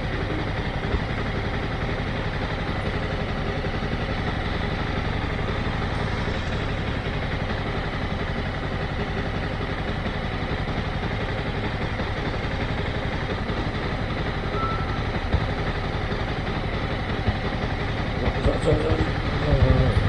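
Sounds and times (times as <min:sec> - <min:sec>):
motorcycle engine idling low: 0:00.0 - 0:20.0.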